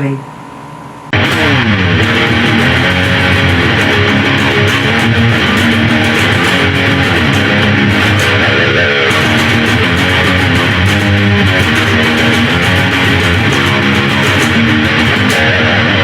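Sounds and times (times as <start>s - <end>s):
rock music with electric guitar: 1.1s - 16.0s.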